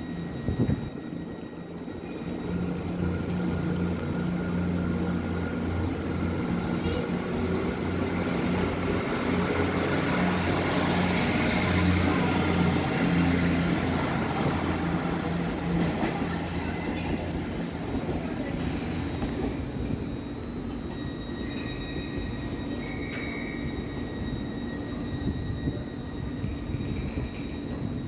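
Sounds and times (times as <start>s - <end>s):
diesel train passing: 0.0s - 28.0s.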